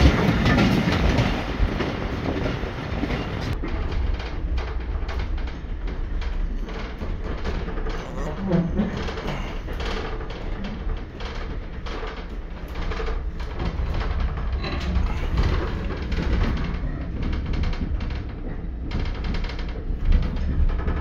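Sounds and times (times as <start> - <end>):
coach rattling and creaking: 0.0 - 21.0
train wheels rumbling on track: 0.0 - 21.0.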